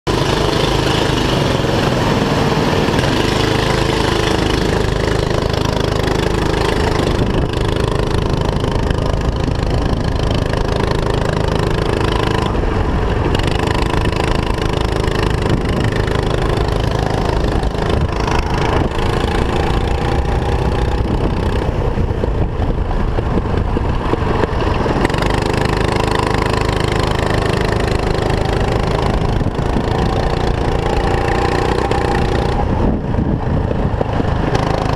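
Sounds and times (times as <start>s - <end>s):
kart engine revving: 0.1s - 34.9s.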